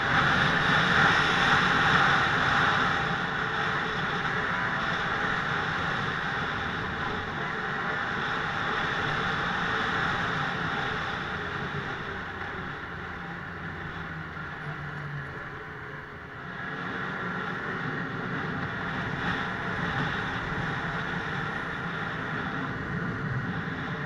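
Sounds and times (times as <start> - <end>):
snowmobile engine running: 0.0 - 24.0.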